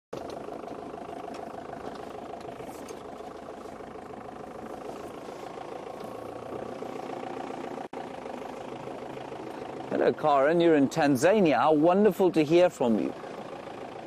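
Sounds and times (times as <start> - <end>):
vehicle engine running at low revs: 0.1 - 14.0.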